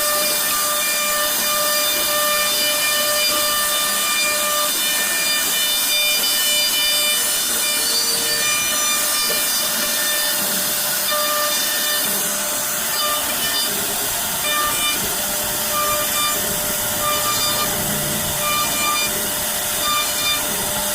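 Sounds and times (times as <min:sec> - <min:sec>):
router spindle cutting wood: 0:00.0 - 0:20.9.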